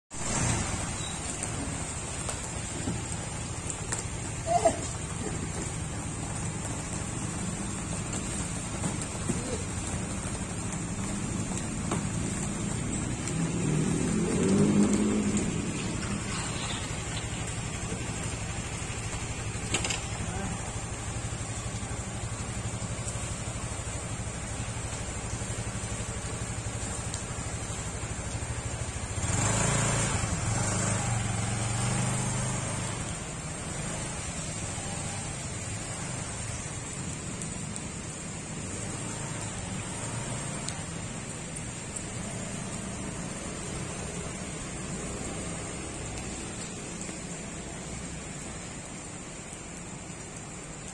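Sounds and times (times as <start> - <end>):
road noise: 0.1 - 50.9
vehicle engine humming: 0.2 - 50.8.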